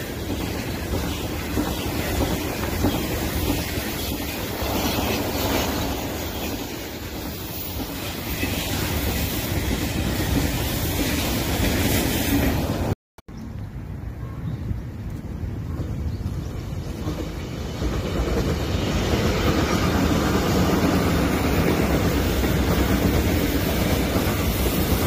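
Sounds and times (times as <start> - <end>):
high-speed train rushing past: 0.0 - 13.0, 15.6 - 25.0
train rumble: 0.0 - 13.0, 13.7 - 25.0.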